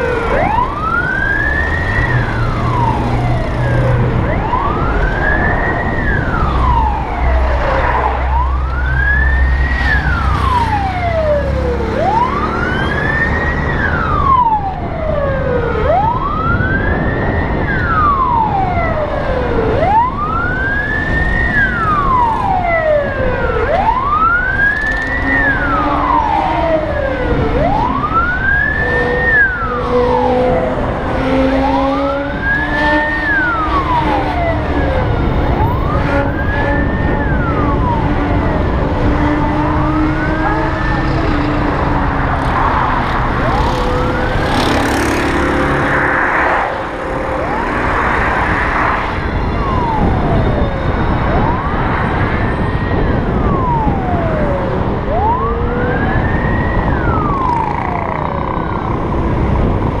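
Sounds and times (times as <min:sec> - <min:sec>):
emergency siren wailing: 0:00.0 - 1:00.0
road and wind noise: 0:00.0 - 1:00.0.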